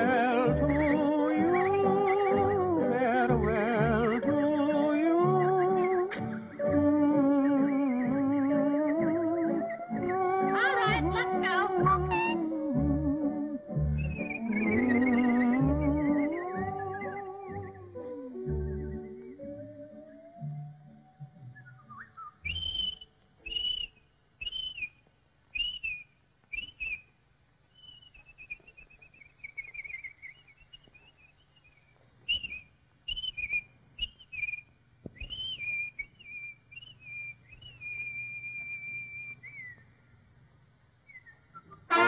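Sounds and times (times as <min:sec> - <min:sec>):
wavering whistled trill: 0:00.0 - 0:27.1, 0:27.7 - 0:39.9, 0:41.0 - 0:42.0
whistled bird calls: 0:00.4 - 0:02.7, 0:05.2 - 0:12.5, 0:14.0 - 0:20.6, 0:21.4 - 0:40.0, 0:41.0 - 0:42.0.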